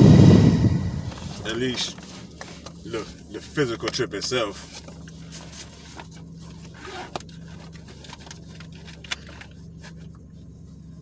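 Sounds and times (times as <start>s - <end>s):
car engine and air conditioning hum: 0.0s - 11.0s.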